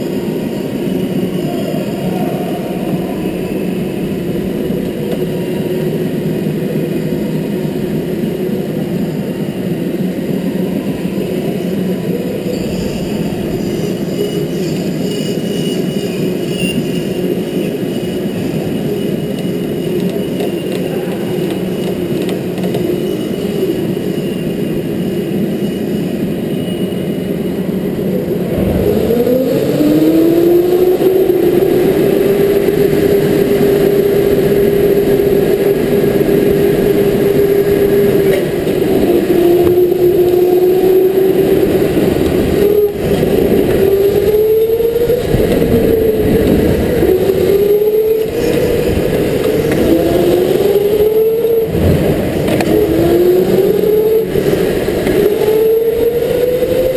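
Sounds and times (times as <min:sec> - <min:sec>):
electric go-kart motor whining: 0:00.0 - 0:56.9
road and wind noise: 0:00.0 - 0:56.9.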